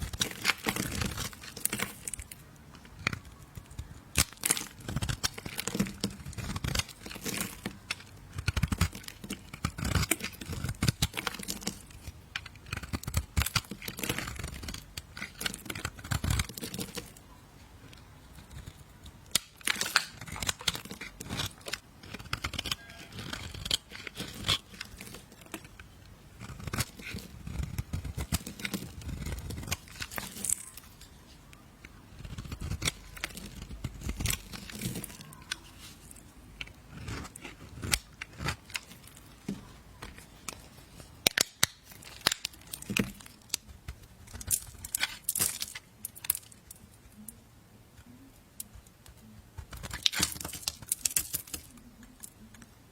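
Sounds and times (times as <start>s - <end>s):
knife cutting soap: 0.0s - 17.3s, 18.3s - 31.2s, 31.8s - 46.5s.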